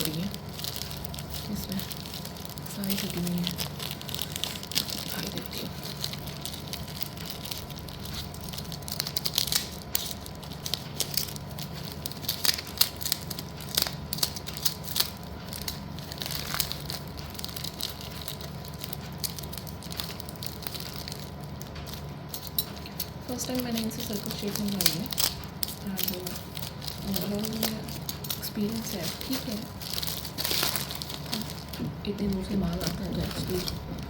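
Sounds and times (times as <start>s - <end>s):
packaging crinkling: 0.0s - 34.0s.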